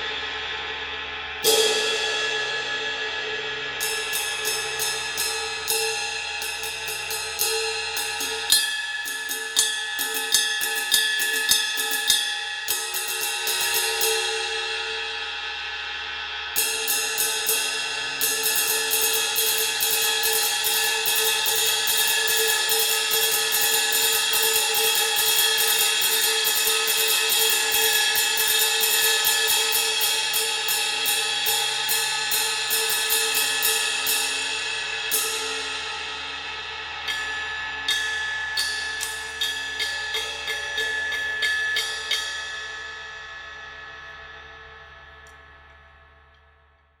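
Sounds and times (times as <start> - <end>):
ride cymbal played with stick: 0.0 - 46.8.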